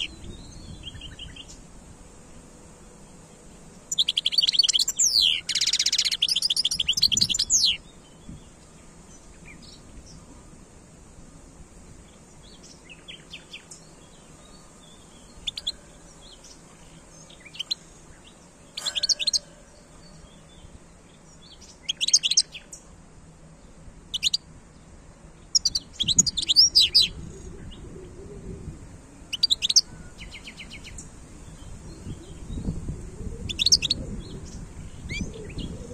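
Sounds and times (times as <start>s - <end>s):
bird twittering song: 0.0s - 1.7s, 3.1s - 10.5s, 12.0s - 23.0s, 23.6s - 35.9s.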